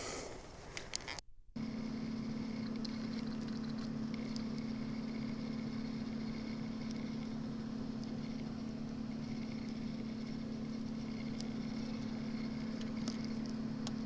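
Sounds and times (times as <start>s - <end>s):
steady machine hum: 1.6s - 14.0s.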